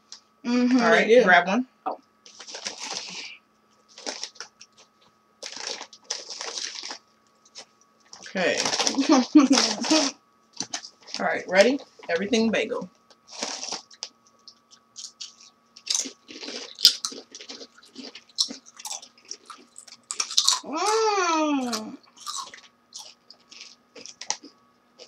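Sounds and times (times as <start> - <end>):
people crunching potato chips: 2.3 - 11.2, 13.2 - 25.0.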